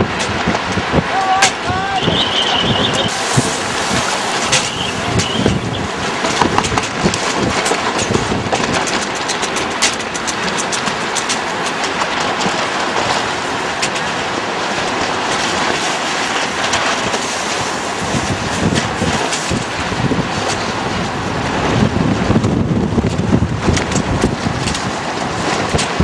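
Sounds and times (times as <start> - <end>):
water splashing: 0.0 - 21.4
strong wind on microphone: 0.0 - 26.0.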